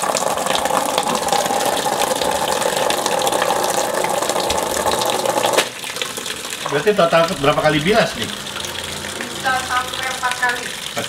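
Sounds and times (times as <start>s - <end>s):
tap water gushing into basin: 0.0s - 11.0s.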